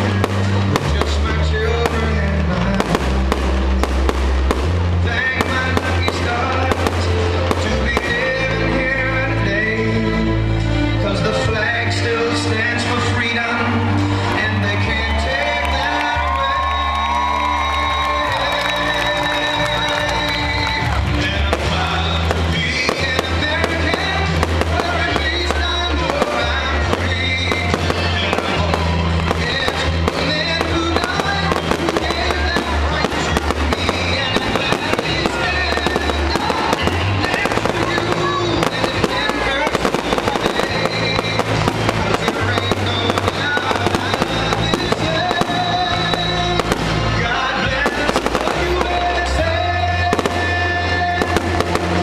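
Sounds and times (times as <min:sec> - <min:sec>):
fireworks bangs and crackling: 0:00.0 - 0:10.1, 0:11.5 - 0:52.0
music with steady bass line: 0:00.0 - 0:52.0.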